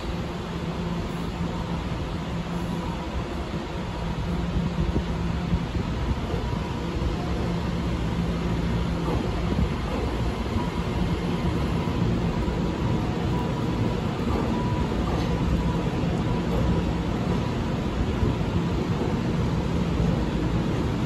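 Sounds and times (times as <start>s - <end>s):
electric train rolling past: 0.0s - 21.0s.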